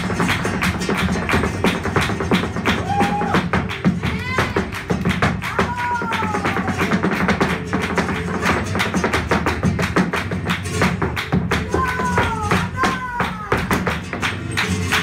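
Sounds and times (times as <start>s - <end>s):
dance footwork on wooden floor: 0.0s - 15.0s
flamenco guitar: 0.0s - 15.0s.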